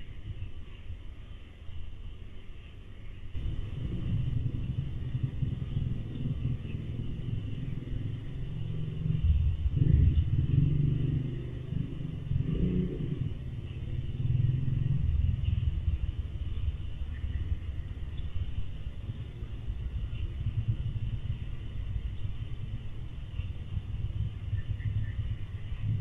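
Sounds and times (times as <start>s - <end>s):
distant vehicles passing: 3.4s - 26.0s.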